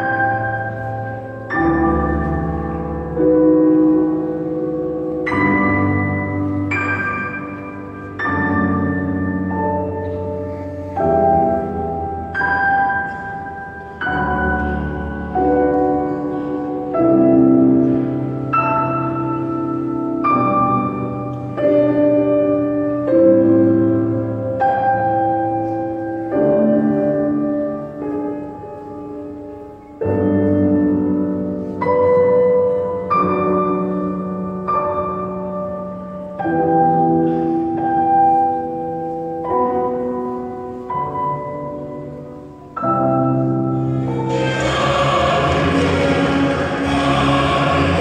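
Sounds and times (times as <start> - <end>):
sustained keyboard chords: 0.0 - 48.0.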